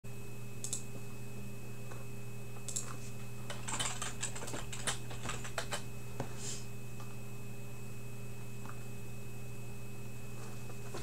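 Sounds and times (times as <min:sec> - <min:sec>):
electrical hum: 0:00.1 - 0:11.0.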